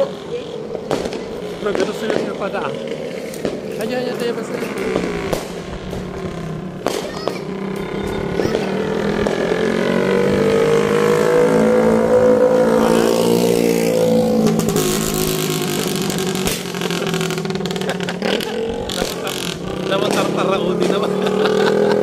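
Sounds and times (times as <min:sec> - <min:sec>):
motorcycle engine passing: 0:00.0 - 0:22.0.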